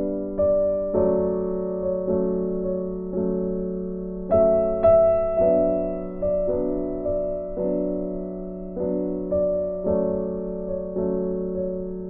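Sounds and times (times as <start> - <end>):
slow piano piece: 0.0 - 12.0.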